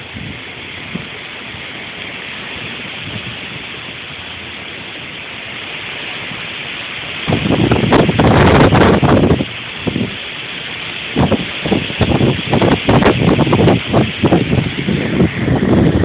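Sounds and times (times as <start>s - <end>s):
wind gust buffeting microphone: 0.0s - 10.2s, 11.0s - 16.0s
wind hissing: 0.0s - 16.0s.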